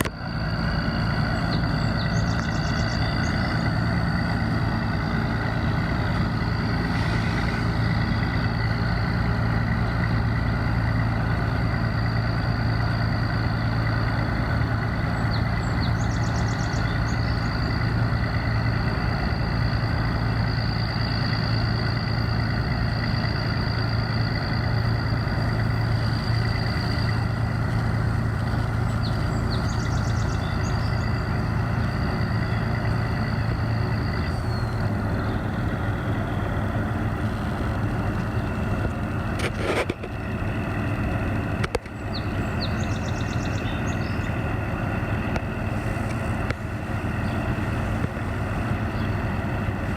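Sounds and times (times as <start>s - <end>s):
heavy engine droning: 0.0s - 49.9s
thin steady whine: 0.0s - 49.9s.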